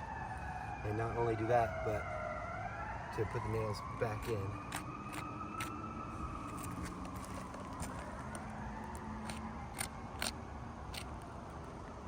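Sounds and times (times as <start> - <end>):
distant siren wailing: 0.0 - 11.2.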